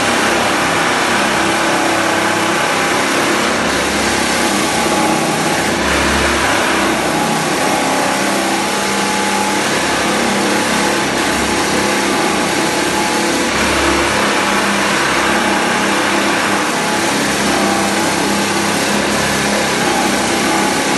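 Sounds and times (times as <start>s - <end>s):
floor sander running: 0.0s - 20.9s.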